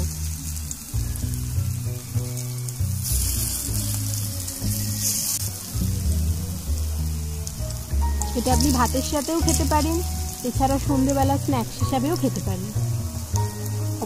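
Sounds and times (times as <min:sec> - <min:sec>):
background music with low notes: 0:00.0 - 0:14.0
oil sizzling with frying fritters: 0:00.0 - 0:14.0.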